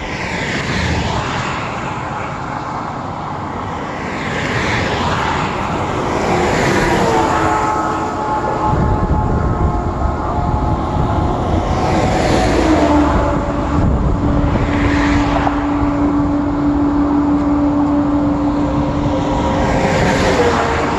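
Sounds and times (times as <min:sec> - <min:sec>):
steady engine hum: 0:00.0 - 0:20.9
vehicles passing on expressway: 0:00.0 - 0:20.9.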